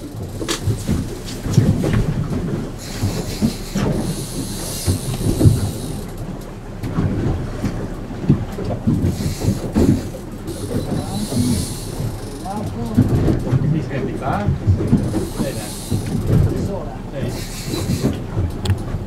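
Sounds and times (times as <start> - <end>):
hull knocking on waves: 0.0 - 19.0
outboard motors rumbling: 0.0 - 19.0
water rushing past: 0.0 - 19.0.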